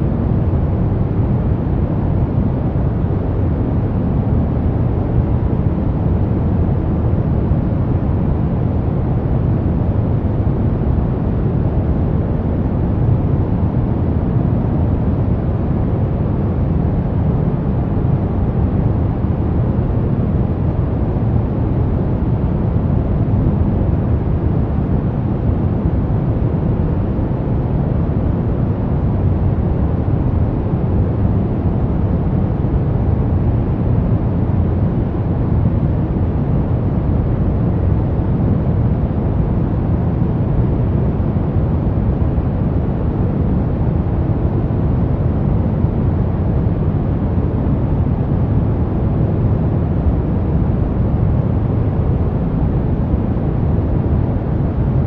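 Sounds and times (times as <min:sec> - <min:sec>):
brown noise: 0:00.0 - 0:55.0.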